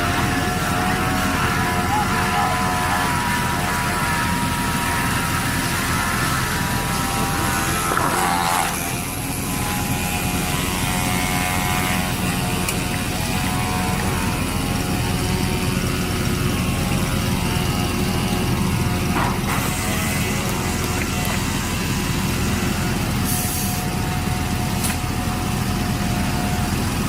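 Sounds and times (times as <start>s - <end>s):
drilling rig engine drone: 0.0s - 27.0s.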